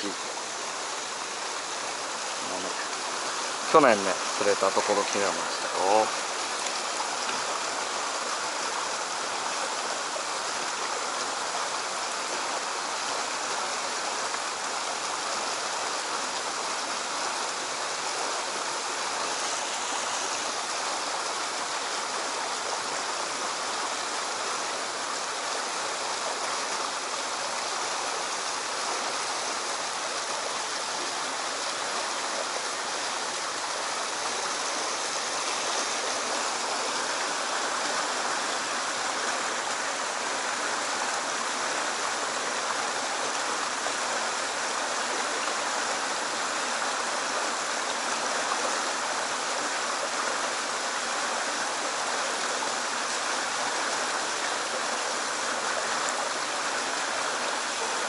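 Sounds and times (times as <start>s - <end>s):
stream water running over rocks: 0.0s - 58.0s.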